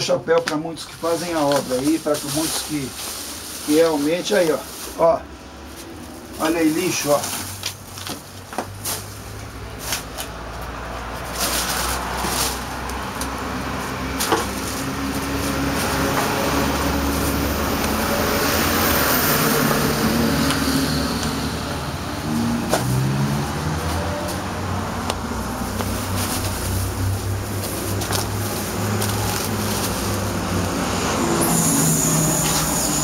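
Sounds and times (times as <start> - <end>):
vehicle passing: 1.0 - 33.0.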